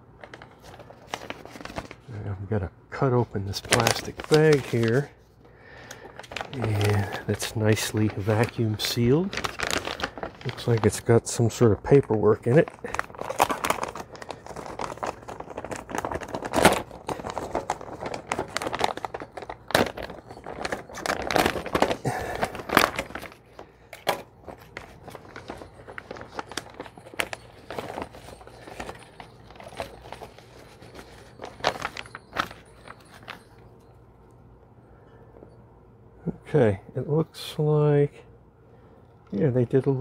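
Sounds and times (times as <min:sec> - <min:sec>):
plastic bag crinkling and tearing: 0:00.3 - 0:02.4, 0:03.0 - 0:33.6.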